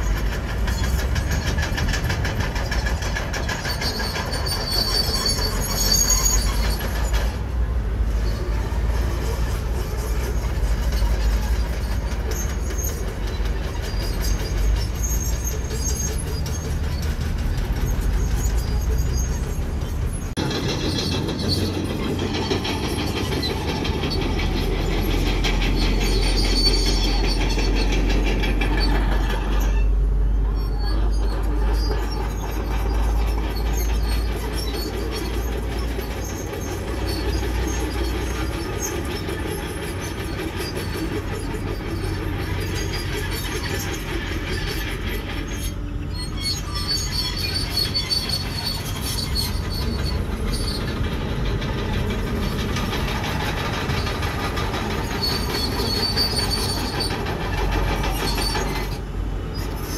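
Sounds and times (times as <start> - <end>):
diesel engine running: 0.0 - 59.9
steel tracks squealing and clanking: 0.0 - 59.9.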